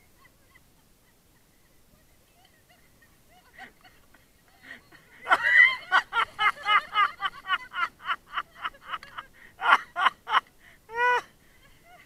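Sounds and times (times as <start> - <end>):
high-pitched laughter: 0.0 - 12.0.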